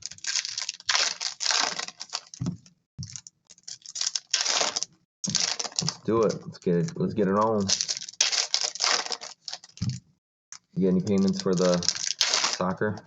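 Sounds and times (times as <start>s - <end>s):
foil wrappers crinkling: 0.0s - 10.0s, 10.8s - 13.0s
trading cards rustling: 0.0s - 10.0s, 10.6s - 13.0s.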